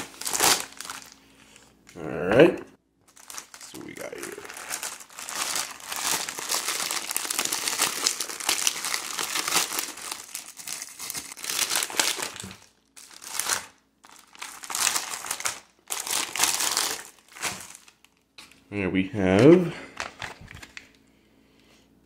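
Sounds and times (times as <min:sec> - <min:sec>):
plastic packaging crinkling: 0:00.0 - 0:01.8, 0:03.1 - 0:18.6, 0:19.9 - 0:21.0.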